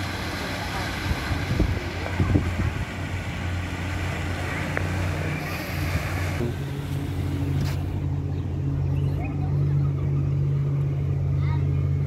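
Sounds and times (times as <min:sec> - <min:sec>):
water fountains spraying: 0:00.0 - 0:11.3
low steady hum: 0:00.0 - 0:12.0.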